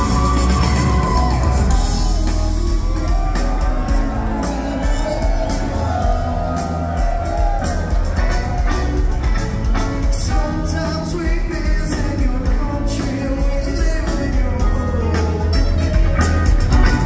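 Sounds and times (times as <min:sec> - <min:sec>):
drums: 0:00.0 - 0:17.0
electric guitars: 0:00.0 - 0:17.0.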